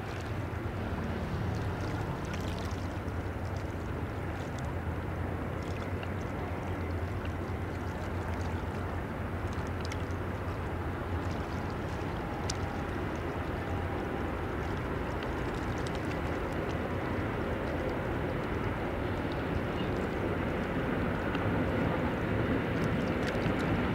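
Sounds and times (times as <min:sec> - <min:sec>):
distant barge engine rumble: 0:00.0 - 0:23.9.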